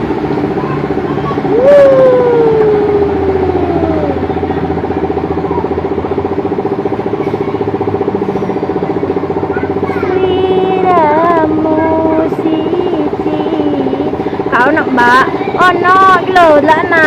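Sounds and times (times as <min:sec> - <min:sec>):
vehicle engine running: 0:00.0 - 0:17.0
wavering pitched tones: 0:00.0 - 0:17.0.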